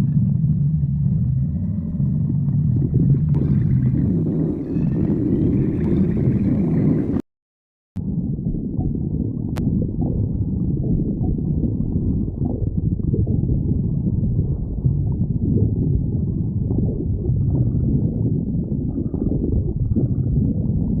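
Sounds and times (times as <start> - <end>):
stomach growling: 0.0 - 7.2, 8.0 - 21.0.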